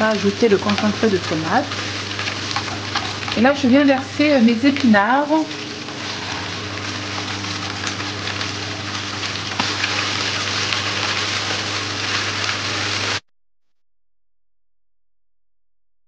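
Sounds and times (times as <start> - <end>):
food sizzling in a frying pan: 0.0 - 13.2
spatula stirring: 0.0 - 13.2.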